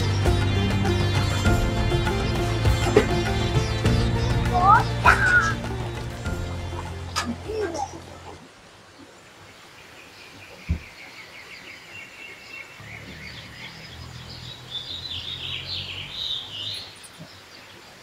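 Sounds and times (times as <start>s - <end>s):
birds chirping and warbling: 0.0s - 18.0s.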